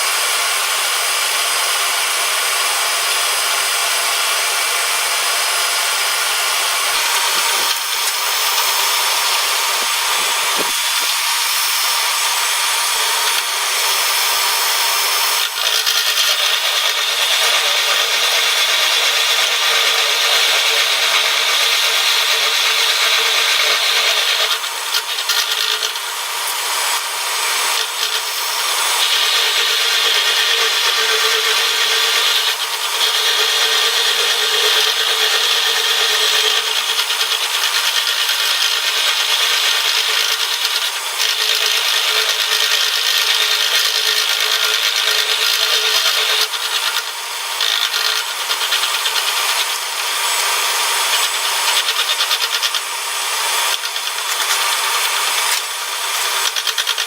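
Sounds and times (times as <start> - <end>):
milling cutter cutting steel: 0.0 - 57.0.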